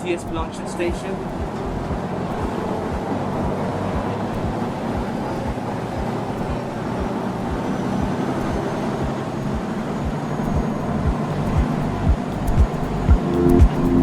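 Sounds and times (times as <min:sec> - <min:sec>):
boat engine running: 0:00.0 - 0:14.0
low thumps: 0:00.0 - 0:14.0.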